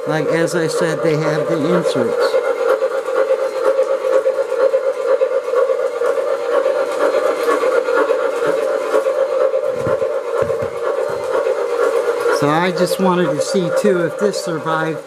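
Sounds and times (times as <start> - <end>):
model train humming: 0.0 - 15.0.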